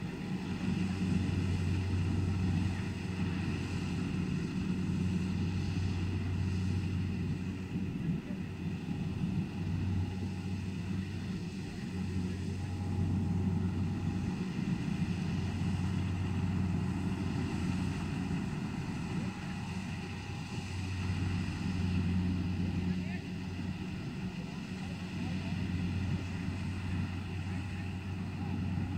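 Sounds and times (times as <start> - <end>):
diesel engine low drone: 0.0 - 28.9.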